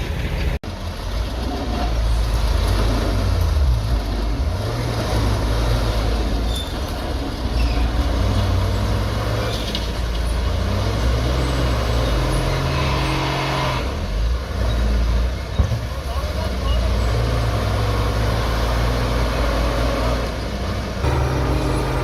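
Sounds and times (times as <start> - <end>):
heavy machinery diesel engine: 0.0 - 22.0.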